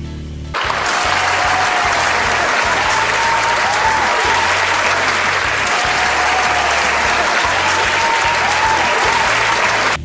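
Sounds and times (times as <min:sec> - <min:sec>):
crowd applause: 0:00.6 - 0:10.0.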